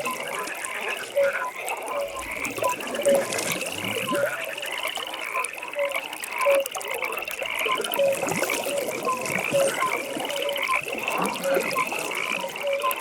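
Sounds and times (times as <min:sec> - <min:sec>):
frogs croaking: 0:00.0 - 0:13.0
frogs trilling: 0:00.0 - 0:13.0.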